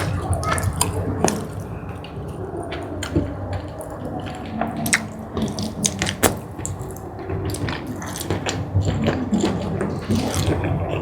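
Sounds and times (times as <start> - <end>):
wet chewing and mouth sounds: 0.0 - 11.0.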